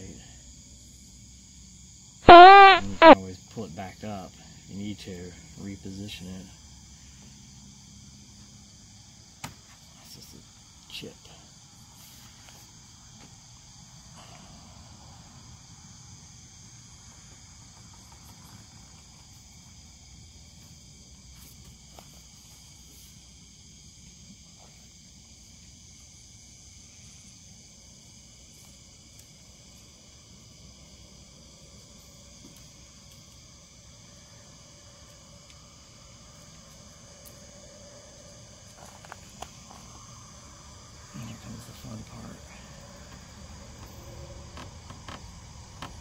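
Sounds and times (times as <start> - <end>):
night insects trilling: 0.0 - 46.0.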